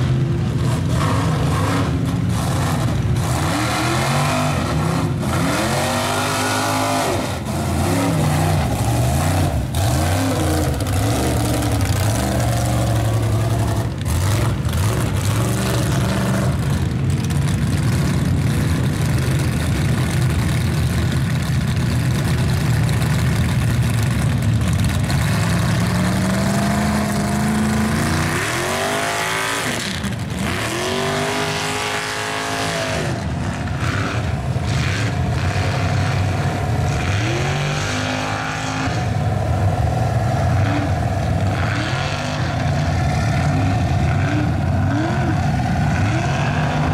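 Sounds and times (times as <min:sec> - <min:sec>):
truck engines revving: 0:00.0 - 0:46.9.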